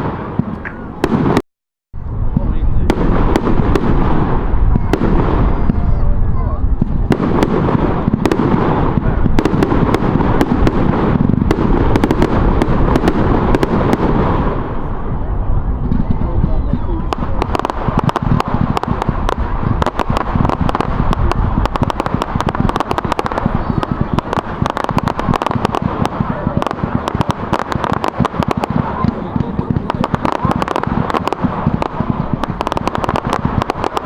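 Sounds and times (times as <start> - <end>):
fireworks crackling and banging: 0.0 - 1.4, 2.0 - 34.0.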